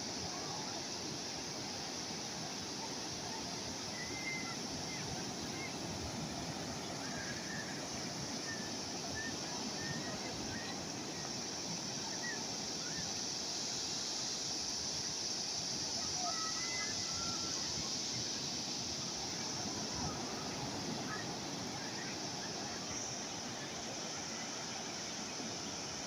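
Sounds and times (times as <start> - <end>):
sea waves washing on shore: 0.0 - 26.0.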